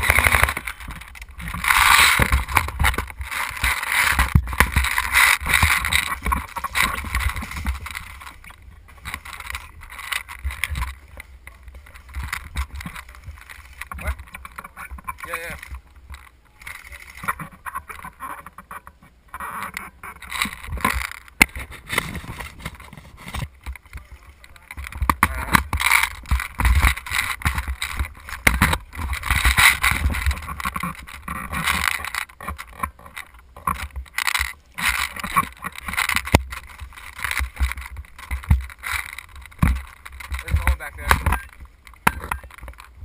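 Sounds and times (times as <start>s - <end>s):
camera handling rustling and knocking: 0.0s - 24.1s, 24.7s - 43.0s.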